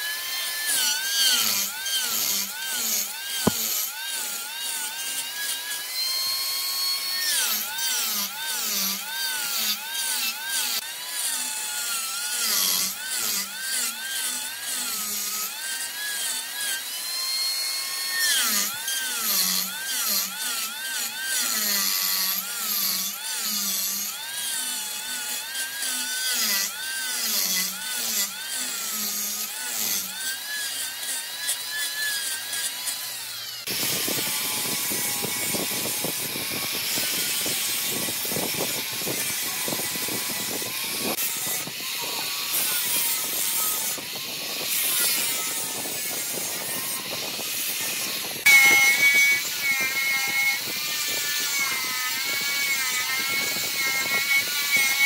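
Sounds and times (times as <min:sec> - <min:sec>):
wood lathe turning tool cutting: 0:00.0 - 0:55.0.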